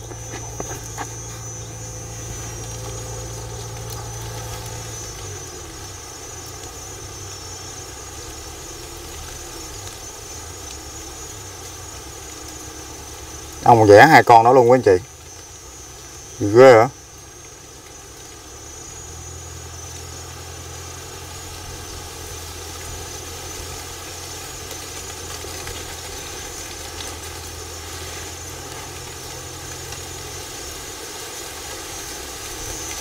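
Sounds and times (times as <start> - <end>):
deeper hum: 0.0 - 33.0
hornets buzzing: 0.0 - 33.0.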